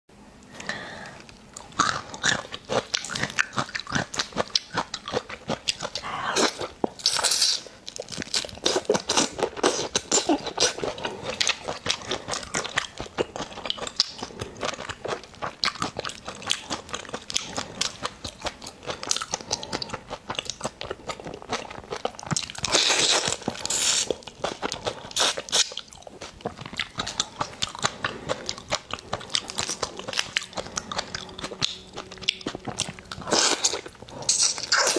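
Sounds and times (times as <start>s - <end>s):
wet crunchy chewing: 1.2s - 34.9s.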